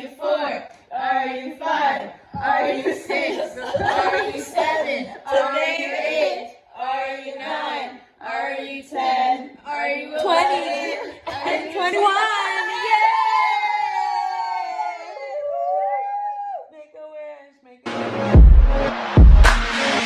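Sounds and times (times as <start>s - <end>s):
voices singing without accompaniment: 0.0s - 16.7s.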